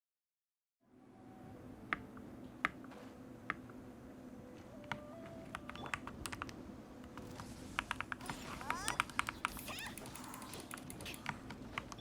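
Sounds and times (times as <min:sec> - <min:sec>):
low steady hum: 0:00.8 - 0:12.0.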